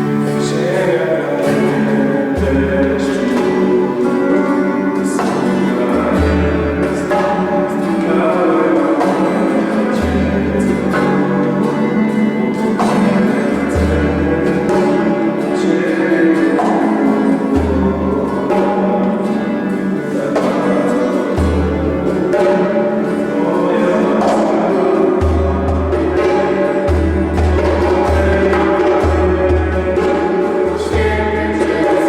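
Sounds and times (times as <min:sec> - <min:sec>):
band music with sustained chords: 0:00.0 - 0:32.0
light percussion: 0:00.0 - 0:32.0.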